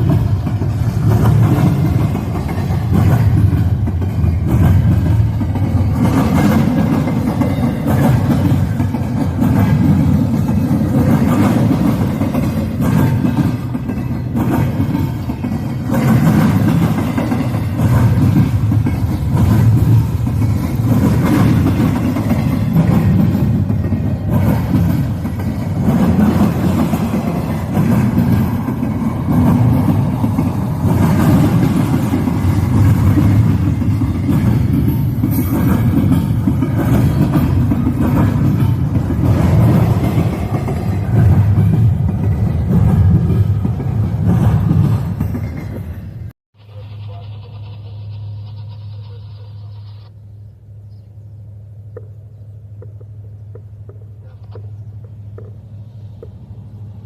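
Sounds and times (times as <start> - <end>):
freight train engine rumble: 0.0 - 57.0.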